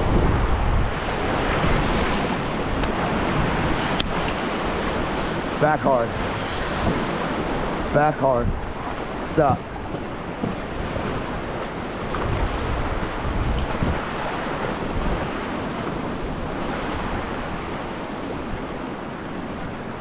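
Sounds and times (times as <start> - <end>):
river rapid rushing: 0.0 - 20.0
wind buffeting microphone: 0.0 - 20.0.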